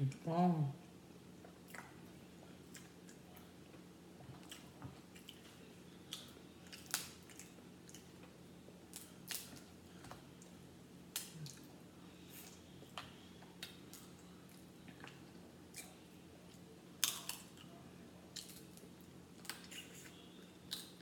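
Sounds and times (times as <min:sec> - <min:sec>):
quiet chewing: 0:01.3 - 0:21.0.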